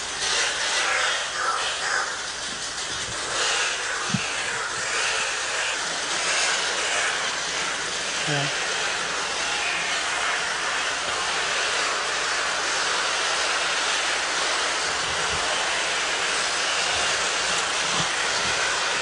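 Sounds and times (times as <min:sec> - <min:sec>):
steady rushing hiss: 0:00.0 - 0:19.0.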